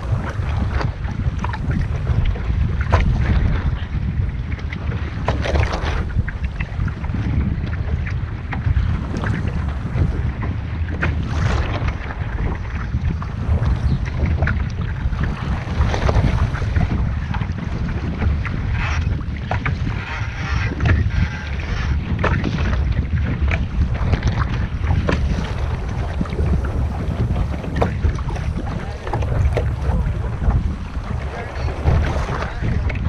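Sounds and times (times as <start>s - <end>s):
water splashing against boat hull: 0.0s - 33.0s
wind buffeting microphone: 0.0s - 33.0s.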